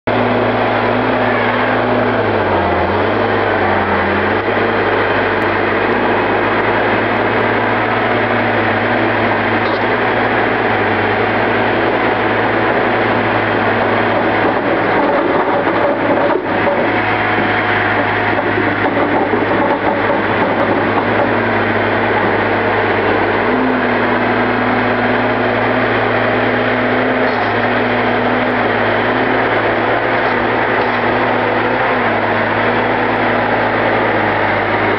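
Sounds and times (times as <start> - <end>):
diesel engine running under load: 0.0 - 34.9.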